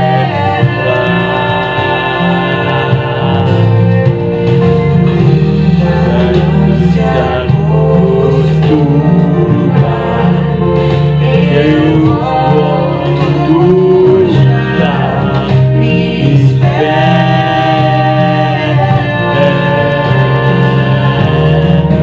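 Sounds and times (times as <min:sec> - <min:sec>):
person singing long notes: 0:00.0 - 0:04.5, 0:05.2 - 0:22.0
instrumental accompaniment: 0:00.0 - 0:22.0.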